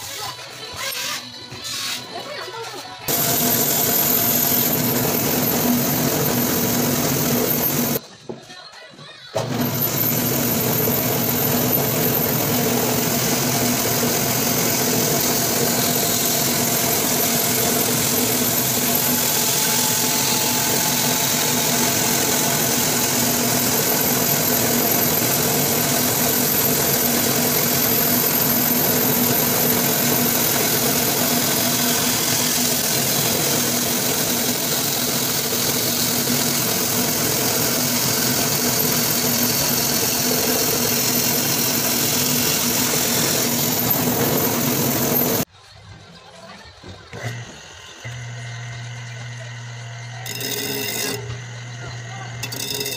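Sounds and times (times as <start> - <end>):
bandsaw cutting wood: 3.1 - 8.0, 9.4 - 45.5, 48.1 - 52.9.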